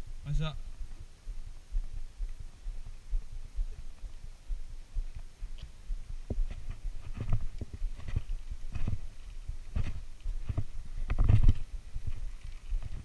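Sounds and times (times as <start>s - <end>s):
footsteps on concrete: 0.7s - 13.0s.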